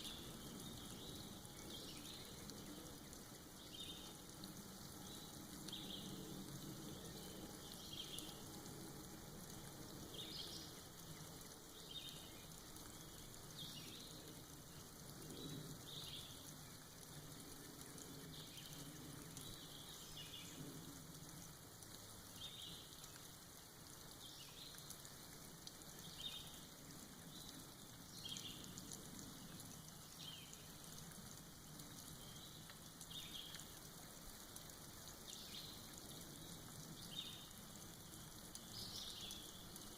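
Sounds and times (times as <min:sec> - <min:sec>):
soft rain dripping: 0:00.0 - 0:39.9.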